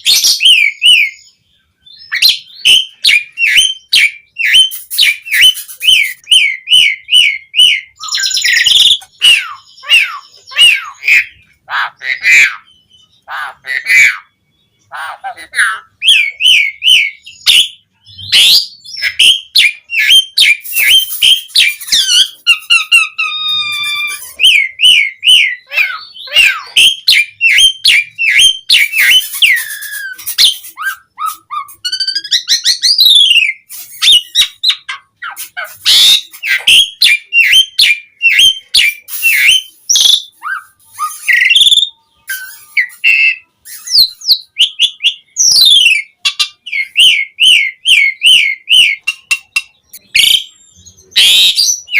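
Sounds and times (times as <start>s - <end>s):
starling singing: 0.0s - 51.9s.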